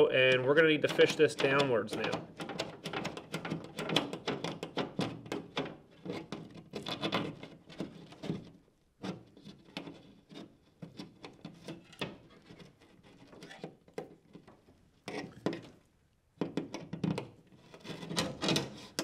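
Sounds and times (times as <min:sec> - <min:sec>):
wire scraping against drywall: 0:00.0 - 0:15.8, 0:16.8 - 0:19.0.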